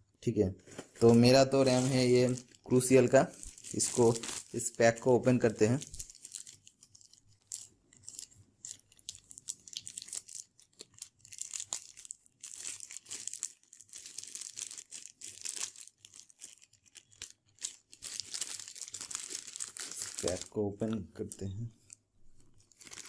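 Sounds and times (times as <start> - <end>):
packaging being torn and crinkled: 0.8 - 20.6, 22.6 - 23.0.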